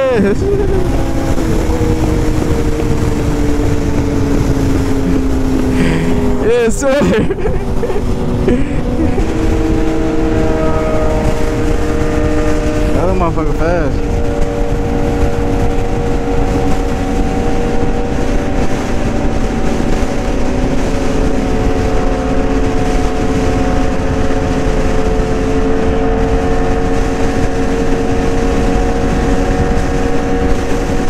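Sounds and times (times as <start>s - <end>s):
motorcycle engine cruising: 0.0s - 31.0s
wind rush on microphone: 0.0s - 31.0s.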